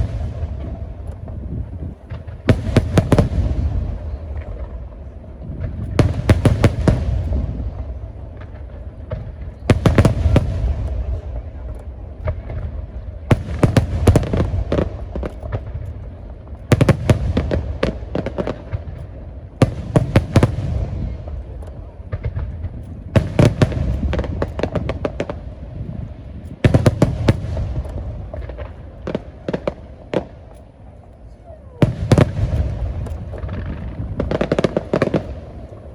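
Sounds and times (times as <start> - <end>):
steady low rumble: 0.0 - 35.9.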